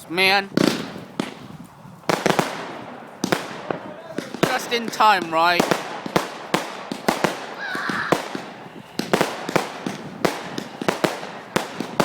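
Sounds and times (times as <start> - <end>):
fireworks and firecrackers banging: 0.1 - 12.0.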